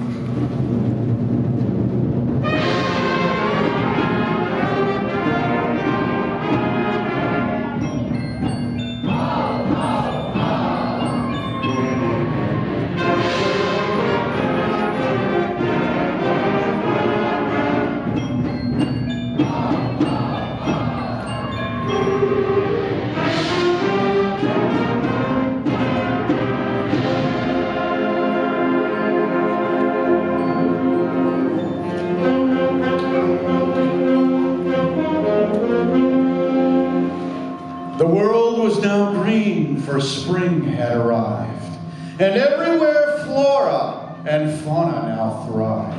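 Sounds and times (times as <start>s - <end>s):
percussion: 0.0s - 39.7s
concert band playing: 0.0s - 45.9s
brass chords: 0.6s - 45.9s.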